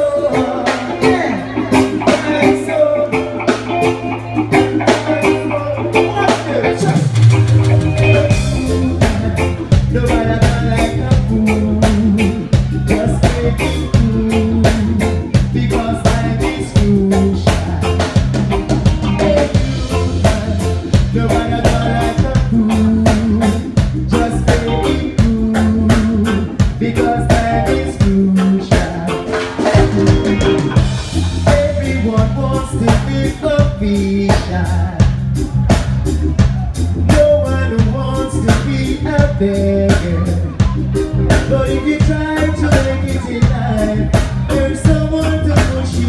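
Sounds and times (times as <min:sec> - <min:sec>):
bass guitar line: 0:00.0 - 0:46.0
drum kit steady beat: 0:00.0 - 0:46.0
electric guitar: 0:00.0 - 0:46.0
keyboards: 0:00.0 - 0:46.0.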